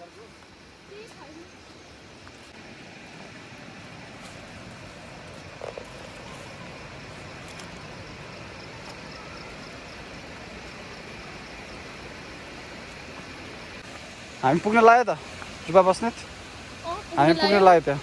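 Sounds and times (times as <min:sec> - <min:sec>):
waterfall rushing: 0:02.4 - 0:18.0.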